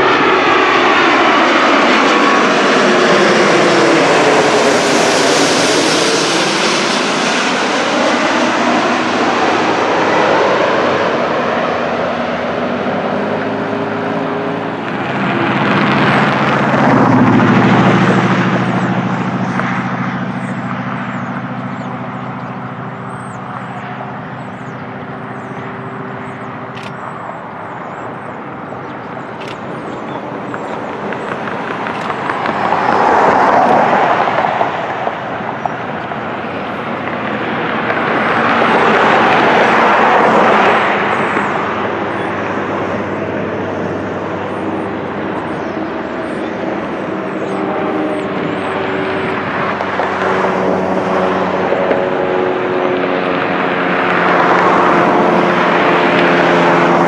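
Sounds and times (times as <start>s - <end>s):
jet engine whine: 0.0s - 57.0s
jet engines roaring: 0.0s - 57.0s.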